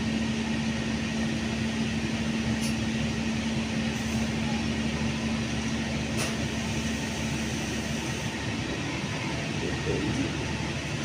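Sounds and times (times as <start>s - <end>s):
train coaches rolling past: 1.1s - 11.0s.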